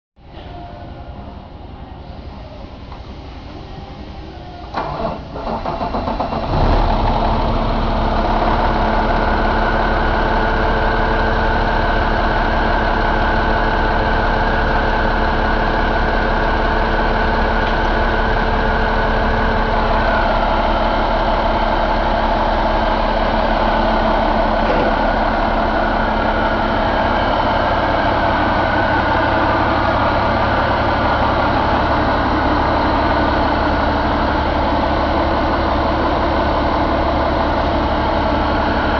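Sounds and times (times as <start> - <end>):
diesel engine starting and idling: 0.2 - 38.9.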